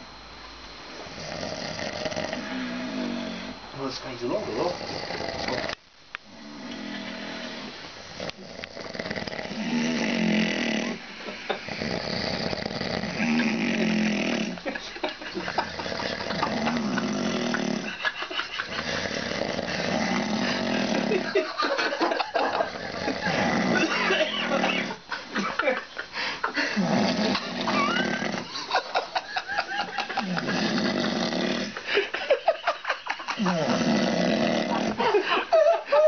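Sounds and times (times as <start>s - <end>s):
person snoring: 1.0s - 3.6s, 4.2s - 25.1s, 26.1s - 28.9s, 29.8s - 32.1s, 33.3s - 35.2s.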